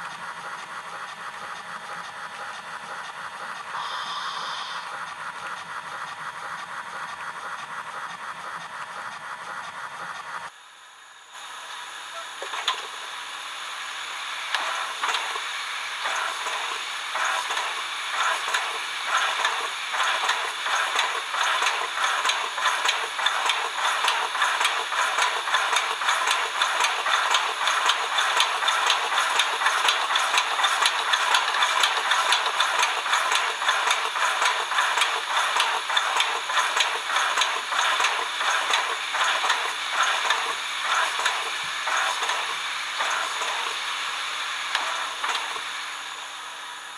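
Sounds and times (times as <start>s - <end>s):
steam hissing: 0.0s - 10.5s, 11.2s - 46.9s
steam locomotive chuffs: 0.0s - 10.6s, 11.3s - 46.9s.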